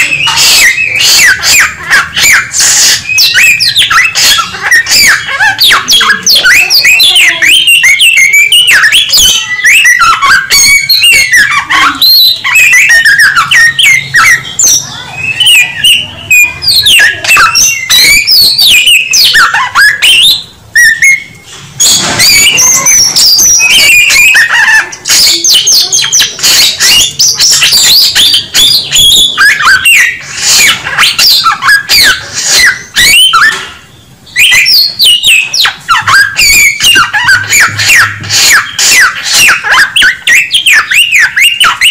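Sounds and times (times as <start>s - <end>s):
songbird singing: 0.0s - 41.9s.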